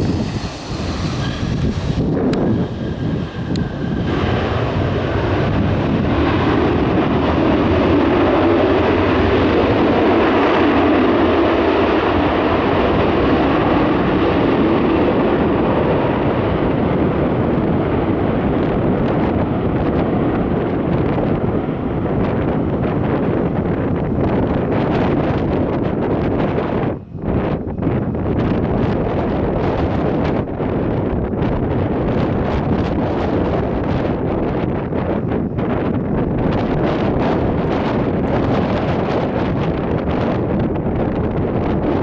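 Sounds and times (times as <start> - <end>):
jet engine rush: 0.0 - 42.0.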